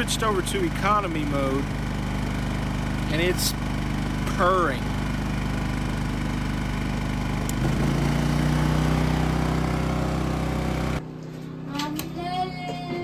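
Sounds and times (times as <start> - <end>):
generator engine purring: 0.0 - 12.1.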